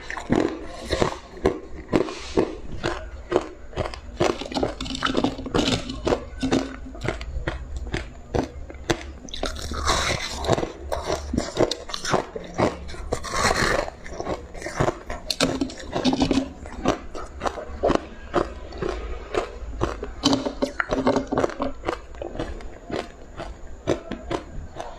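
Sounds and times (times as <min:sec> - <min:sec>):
ice crunching between teeth: 0:00.0 - 0:24.9.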